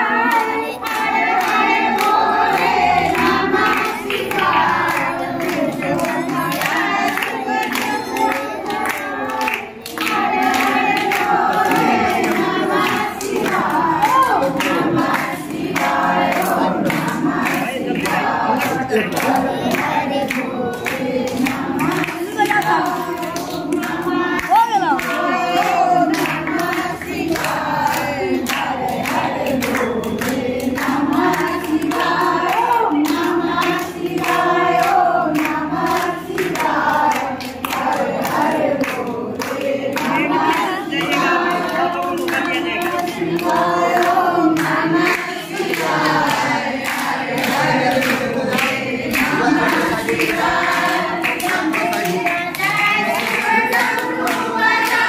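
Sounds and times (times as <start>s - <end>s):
hand claps: 0.0s - 55.0s
women singing devotional song: 0.0s - 55.0s.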